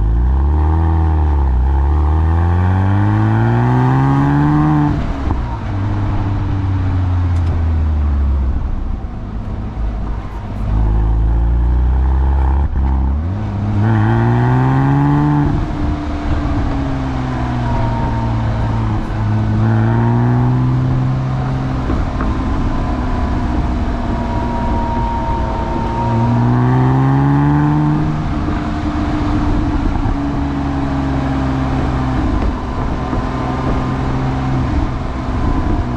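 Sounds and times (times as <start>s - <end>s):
car engine accelerating through gears: 0.0s - 35.9s.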